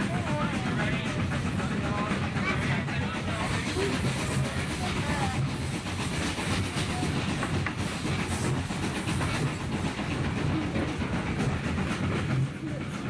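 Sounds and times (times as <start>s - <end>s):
train rumbling along track: 0.0s - 13.0s.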